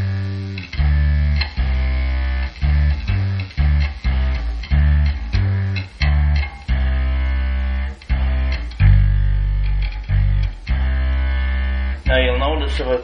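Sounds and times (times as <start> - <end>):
distorted electric bass notes: 0.0 - 13.0.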